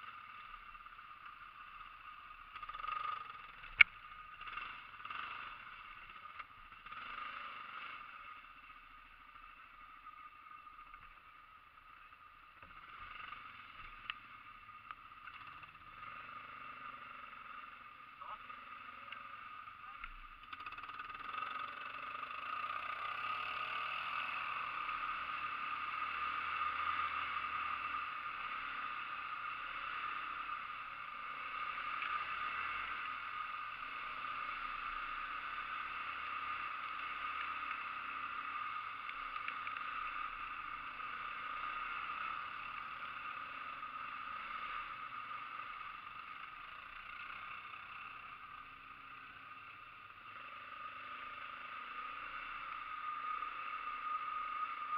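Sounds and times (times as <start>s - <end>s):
atv engines running: 0.0s - 54.9s.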